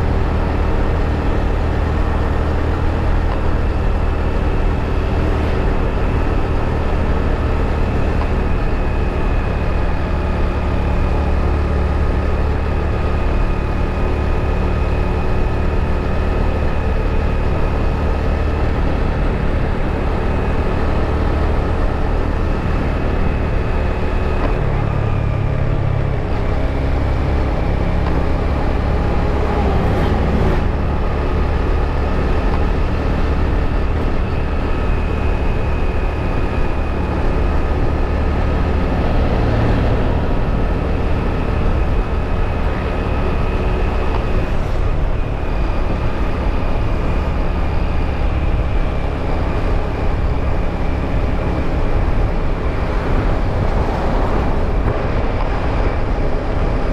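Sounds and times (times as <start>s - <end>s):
motorbike engine drone: 0.0s - 56.9s
wind and road noise rumble: 0.0s - 56.9s.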